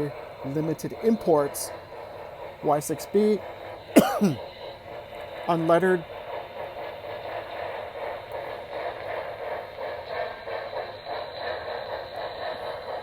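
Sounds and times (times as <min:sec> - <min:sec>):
model locomotive chuffing: 0:00.0 - 0:13.0
model train running noise: 0:00.0 - 0:13.0.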